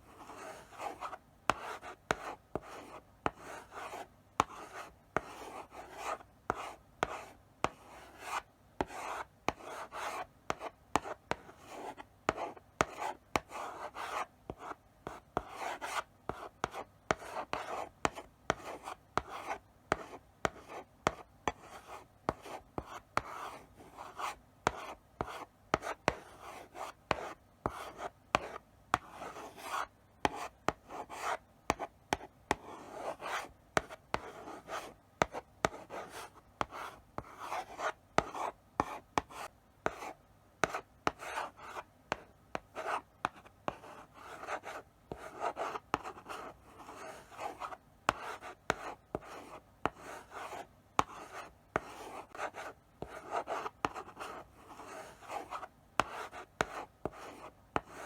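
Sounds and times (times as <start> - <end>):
chalk scratching on blackboard: 0.1 - 14.7, 15.4 - 58.0
chalk tapping on board: 1.5 - 21.7, 27.1 - 40.0, 40.6 - 58.0.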